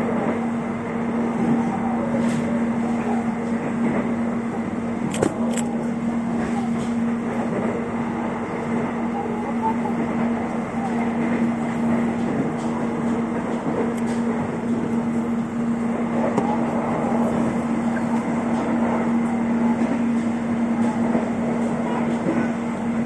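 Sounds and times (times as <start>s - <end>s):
train rolling noise: 0.0s - 23.0s.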